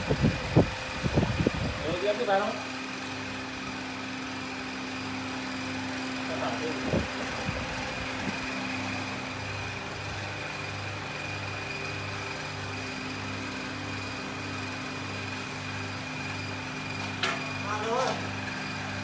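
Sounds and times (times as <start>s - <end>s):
cutting machine motor humming: 2.2s - 19.0s.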